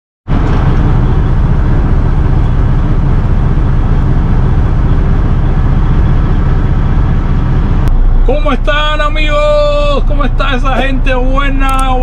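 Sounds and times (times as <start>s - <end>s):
diesel truck engine idling: 0.3s - 12.0s.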